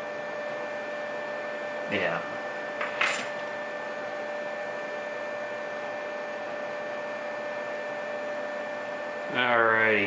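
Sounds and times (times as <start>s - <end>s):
thin electrical whine: 0.0s - 10.0s.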